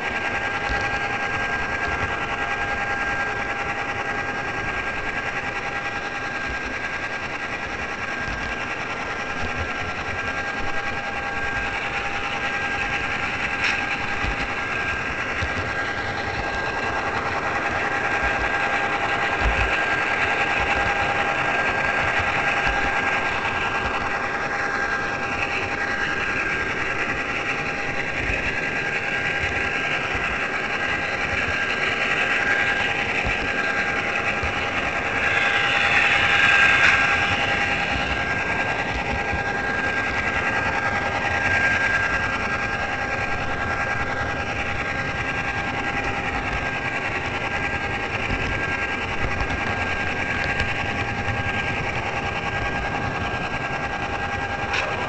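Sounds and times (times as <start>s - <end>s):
model train motor whine: 0.0s - 55.0s.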